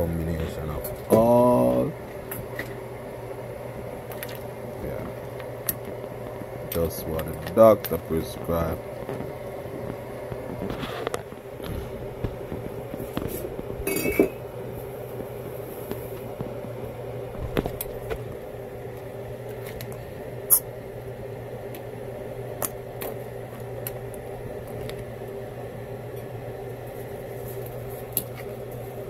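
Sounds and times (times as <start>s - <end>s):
steady low hum: 0.0s - 29.0s
pot simmering: 0.2s - 29.0s.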